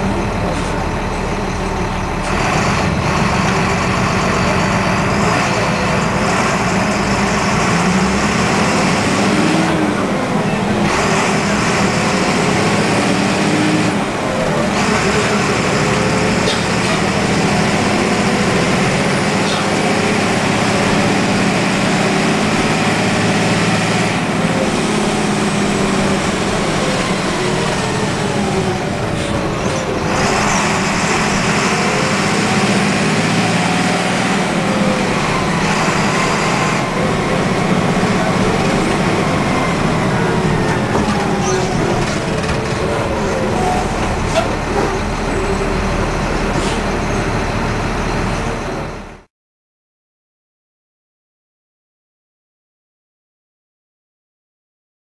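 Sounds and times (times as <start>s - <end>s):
bus diesel engines driving off: 0.0s - 49.3s.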